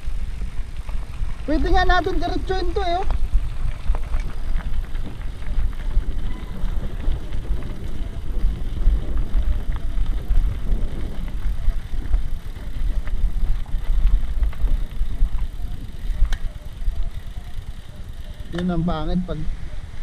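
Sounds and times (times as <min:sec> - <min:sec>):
vehicle driving on rough track: 0:00.0 - 0:20.0.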